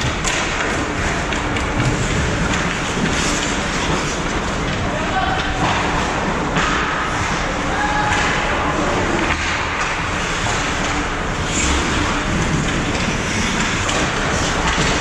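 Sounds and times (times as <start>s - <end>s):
ice rink noise: 0.0s - 15.0s.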